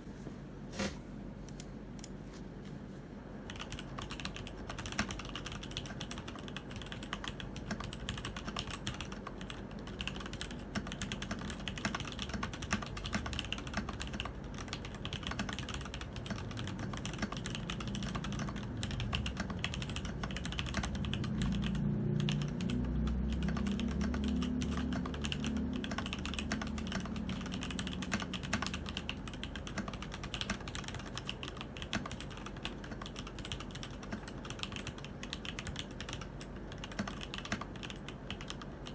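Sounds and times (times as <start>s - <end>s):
mechanical keyboard typing: 3.5s - 38.9s.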